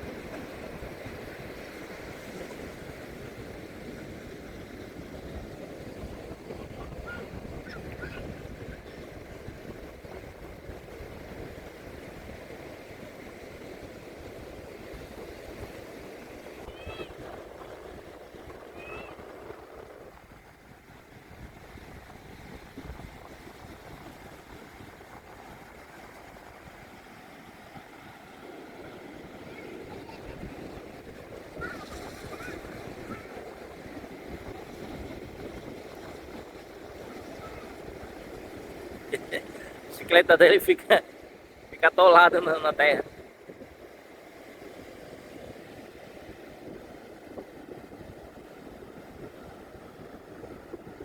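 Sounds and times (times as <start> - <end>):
sea surf washing onto beach: 0.0 - 51.0
wind buffeting microphone: 0.0 - 51.0.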